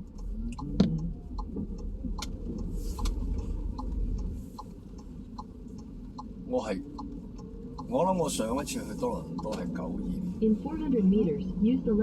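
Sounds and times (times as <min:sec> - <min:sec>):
engine and tyre rumble: 0:00.0 - 0:12.0
turn-signal indicator ticking: 0:00.0 - 0:12.0.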